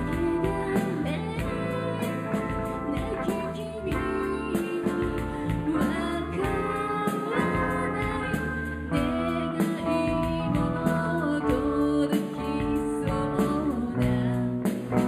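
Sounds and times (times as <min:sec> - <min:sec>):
live rock band playing: 0:00.0 - 0:15.0
woman singing: 0:00.0 - 0:15.0.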